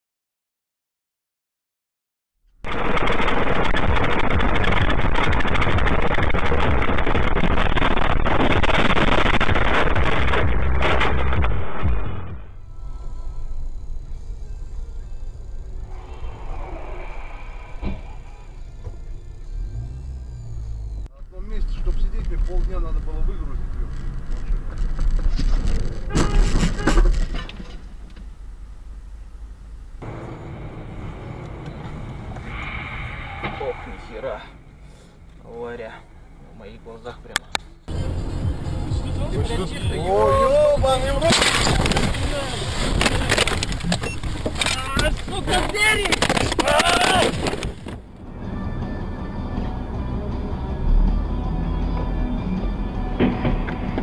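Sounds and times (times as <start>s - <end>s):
car engine and road noise: 2.5s - 54.0s.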